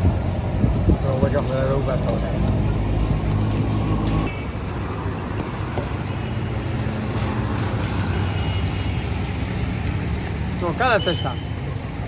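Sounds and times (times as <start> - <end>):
engine humming: 0.0 - 10.7.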